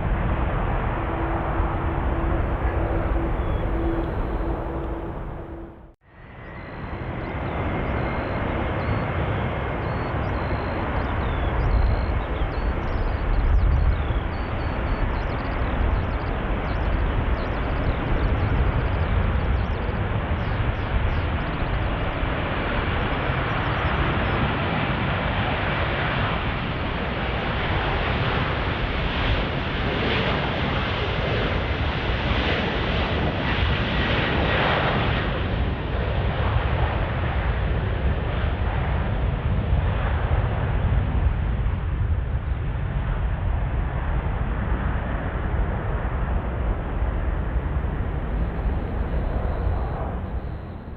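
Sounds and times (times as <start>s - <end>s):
jet engines rushing and whining: 0.0s - 50.9s.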